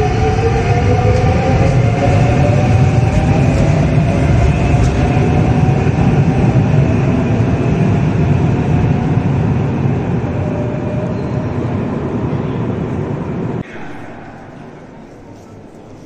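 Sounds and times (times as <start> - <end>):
electric train rumbling past: 0.0 - 15.7.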